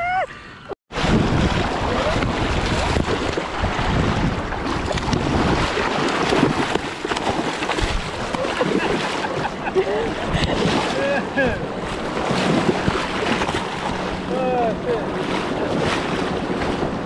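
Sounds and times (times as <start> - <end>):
wind buffeting microphone: 0.9 - 17.0.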